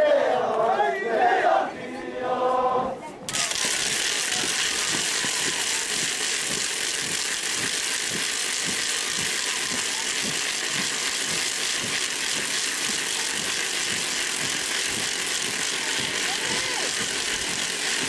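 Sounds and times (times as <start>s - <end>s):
constant high-pitched hiss: 3.1s - 18.0s.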